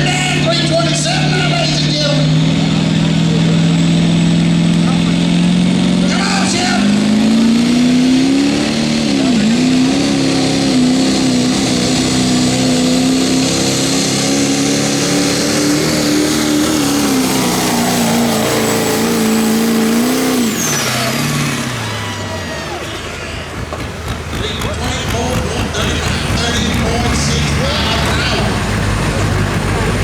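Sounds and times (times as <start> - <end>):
diesel truck engine revving: 0.0 - 30.0.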